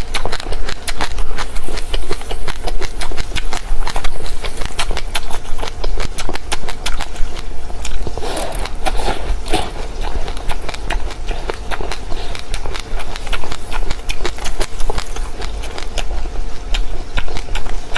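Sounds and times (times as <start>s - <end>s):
crunching and chewing seeds: 0.0s - 17.9s.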